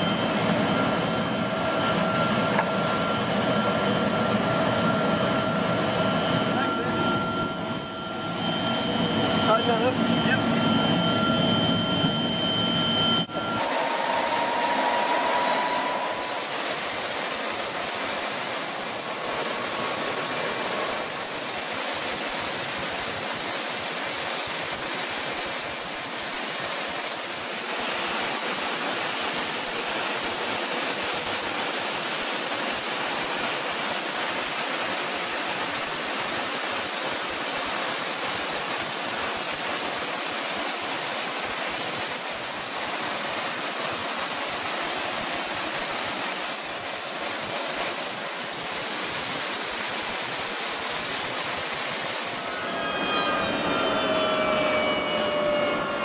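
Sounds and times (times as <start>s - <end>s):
jet engine rush: 0.0s - 56.0s
thin high whine: 0.0s - 56.0s.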